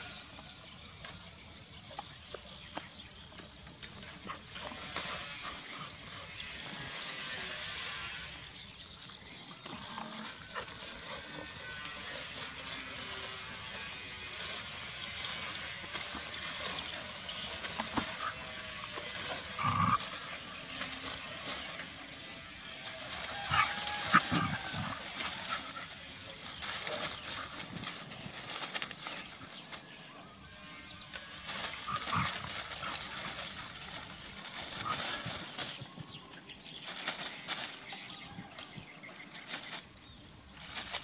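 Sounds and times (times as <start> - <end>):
dogs rustling through leaves: 0.0 - 2.1, 3.5 - 41.0.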